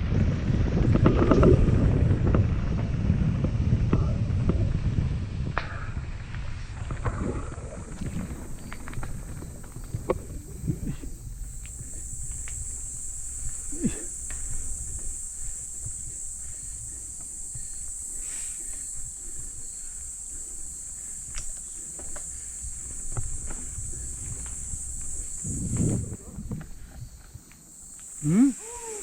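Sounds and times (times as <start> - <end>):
low rumble: 0.0 - 27.2
insects chorus: 0.0 - 29.0.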